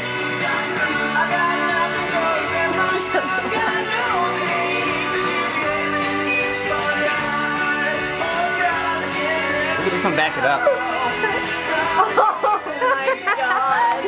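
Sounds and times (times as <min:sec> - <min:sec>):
guitar: 0:00.0 - 0:14.0
person singing: 0:00.0 - 0:14.0.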